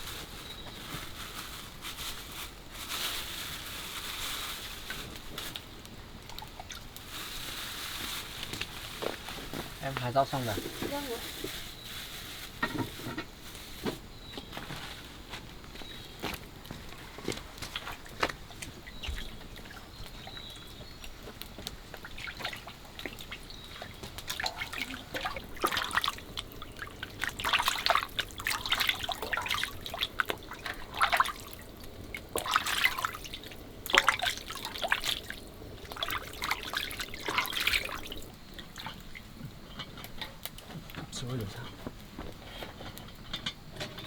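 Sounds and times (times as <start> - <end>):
water splashing and trickling: 0.0 - 13.0, 16.3 - 41.7.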